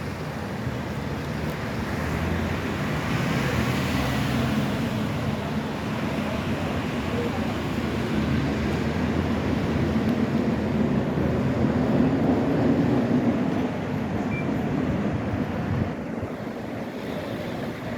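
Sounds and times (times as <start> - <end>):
tram rumbling along track: 0.0 - 17.9.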